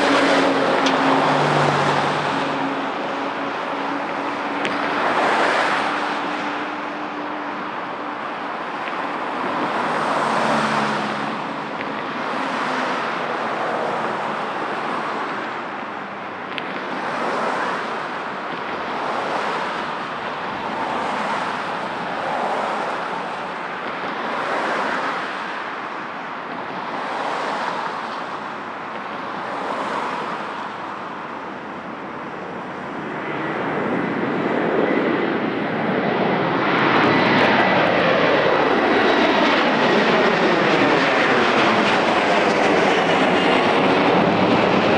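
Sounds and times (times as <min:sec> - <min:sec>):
jet engine roar: 0:00.0 - 0:44.9.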